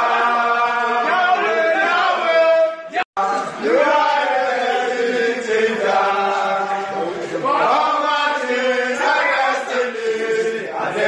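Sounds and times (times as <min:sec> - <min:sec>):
men singing in unison: 0:00.0 - 0:11.0.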